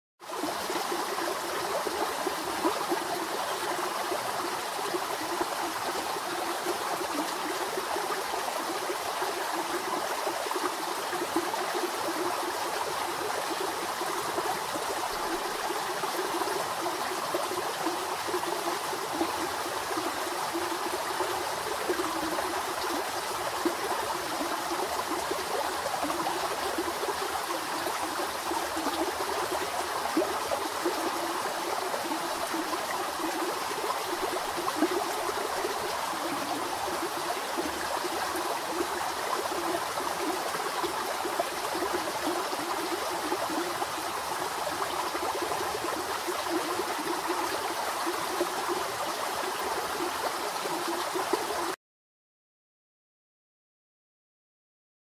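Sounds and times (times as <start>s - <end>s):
creek water flowing: 0.2s - 51.8s.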